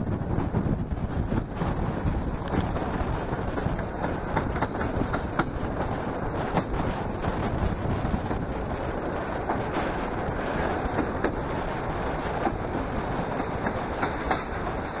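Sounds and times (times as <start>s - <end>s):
rushing air: 0.0s - 15.0s
train wheels rumbling on rail: 0.0s - 15.0s
wheels clicking over track: 0.0s - 15.0s.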